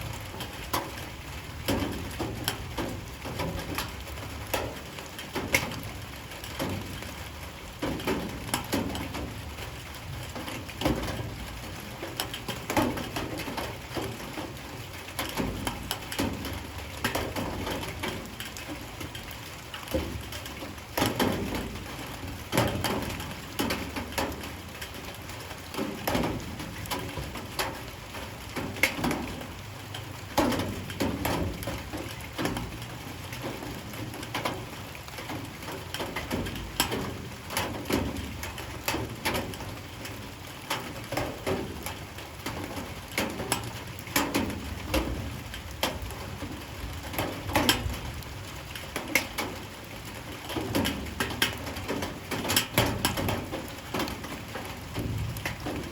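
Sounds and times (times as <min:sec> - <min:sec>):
faint rain patter: 0:00.0 - 0:55.9
large raindrops knocking: 0:00.0 - 0:55.9.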